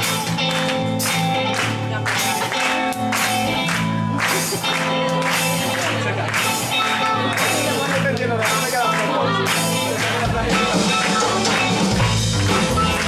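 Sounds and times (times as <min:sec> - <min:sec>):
audience clapping along: 0:00.0 - 0:13.0
funk band playing: 0:00.0 - 0:13.0.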